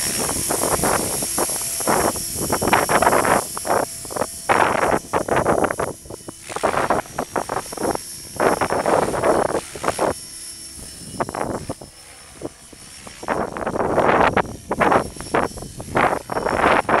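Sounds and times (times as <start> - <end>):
high motor whine: 0.0 - 17.0
rotor whoosh: 0.0 - 17.0.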